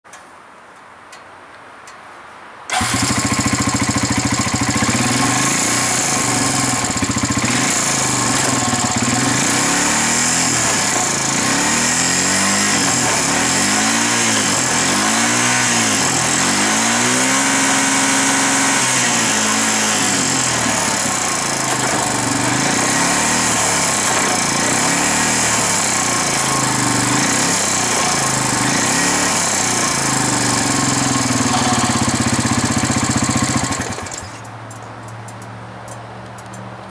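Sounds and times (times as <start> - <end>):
atv engine idling: 2.7 - 34.5.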